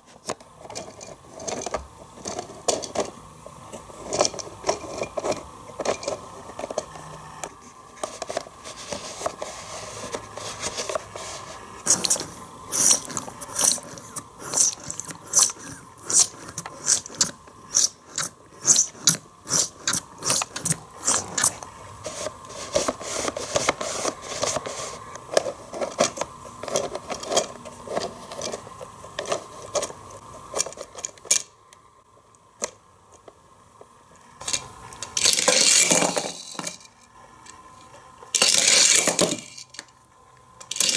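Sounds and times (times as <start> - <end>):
plastic toy parts clicking and clattering: 0.1 - 11.0, 11.8 - 31.6, 34.4 - 37.6, 38.3 - 40.0, 40.6 - 40.9.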